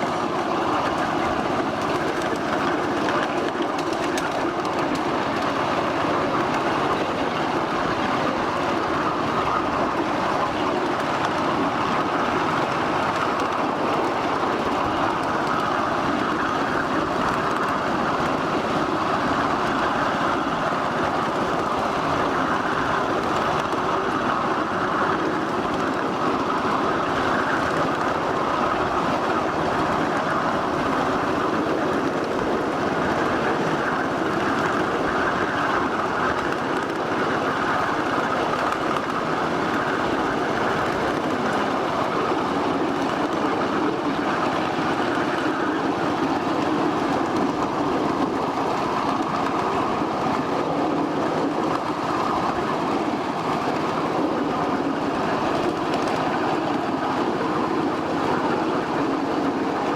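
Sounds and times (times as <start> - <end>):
miniature train wheels on rail: 0.0 - 59.9.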